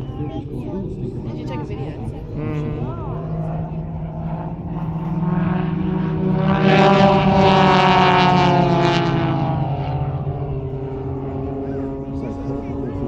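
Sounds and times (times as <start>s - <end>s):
propeller planes flying past: 0.0s - 13.0s.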